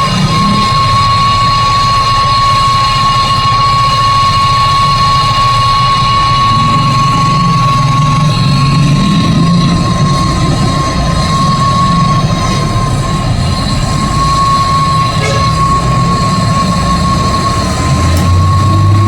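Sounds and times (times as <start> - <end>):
machine rumbling and whining: 0.0 - 19.0.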